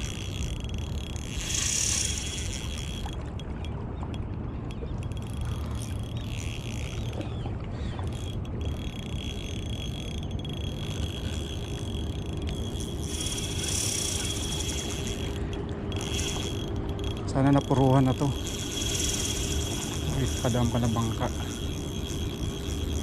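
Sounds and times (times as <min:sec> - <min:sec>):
fishing reel gear whine: 0:00.0 - 0:23.0
low steady rumble: 0:00.0 - 0:23.0.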